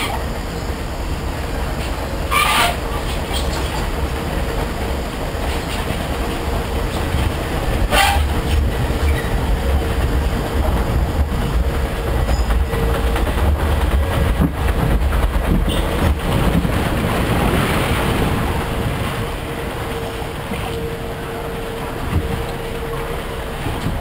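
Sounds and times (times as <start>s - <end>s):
hull clacking on track: 0.0s - 24.0s
log flume boat rumbling: 0.0s - 24.0s
rushing water: 0.0s - 24.0s.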